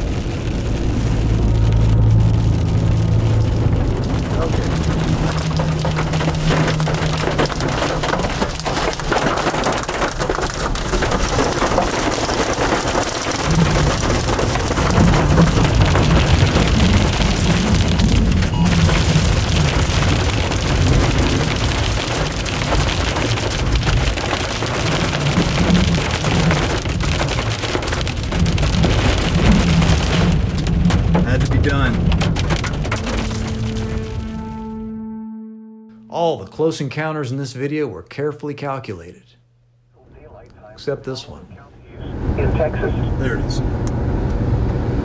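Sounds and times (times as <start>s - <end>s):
heavy rain pounding a vehicle: 0.0s - 34.6s, 41.8s - 45.0s
low rumble: 0.0s - 36.5s, 39.4s - 45.0s.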